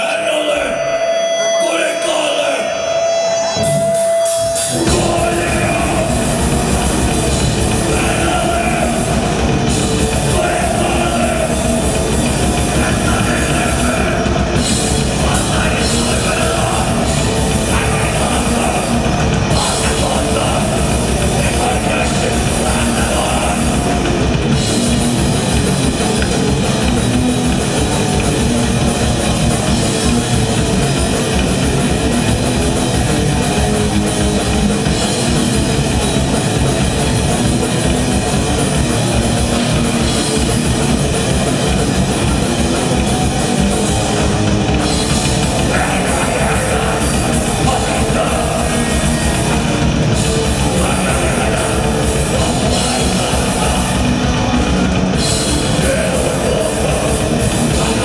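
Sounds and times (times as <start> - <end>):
metal band playing live: 0.0 - 58.0.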